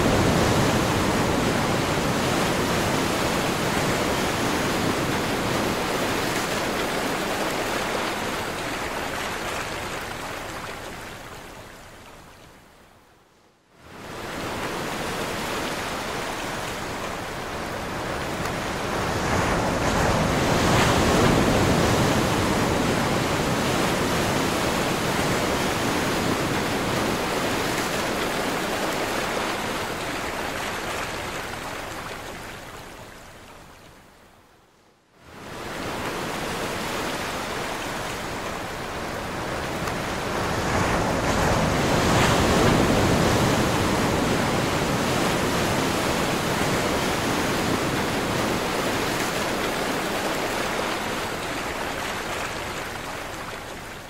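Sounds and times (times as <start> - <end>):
ocean surf washing ashore: 0.0 - 12.5, 13.8 - 34.0, 35.2 - 54.0.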